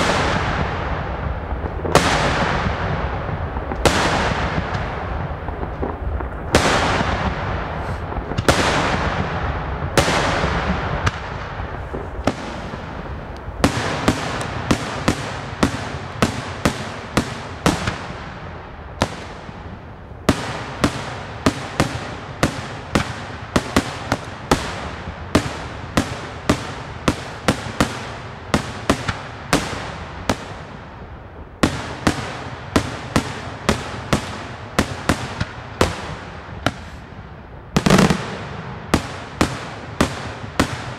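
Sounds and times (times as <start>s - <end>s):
heavy firework bangs: 0.0s - 40.9s.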